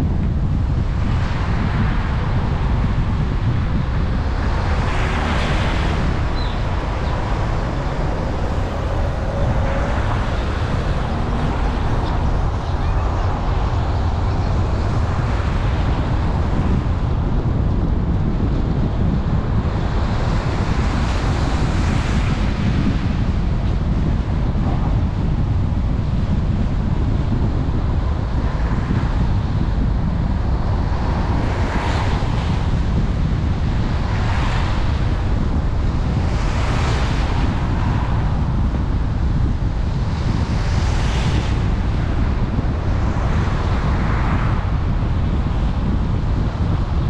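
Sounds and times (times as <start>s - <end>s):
wind and tyre rumble: 0.0s - 47.0s.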